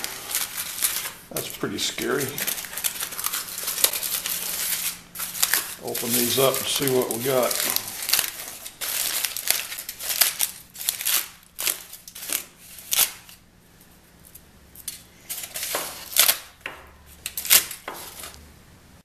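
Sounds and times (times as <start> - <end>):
aluminium foil crinkling: 0.0 - 18.4.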